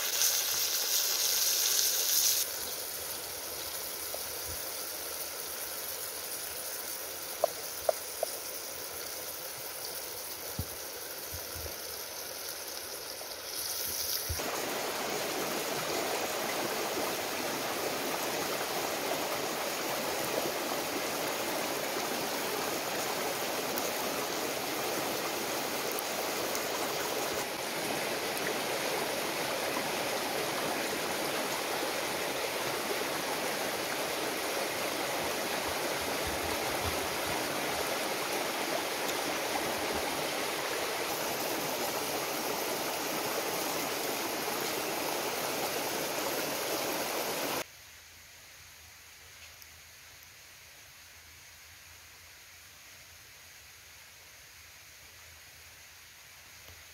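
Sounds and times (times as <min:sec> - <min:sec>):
running water rushing: 0:00.0 - 0:47.7.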